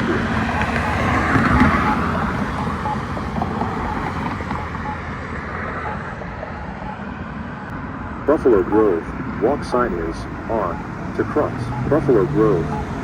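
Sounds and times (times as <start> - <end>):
pedestrian signal ticking: 0.0 - 13.0
road traffic: 0.0 - 13.0.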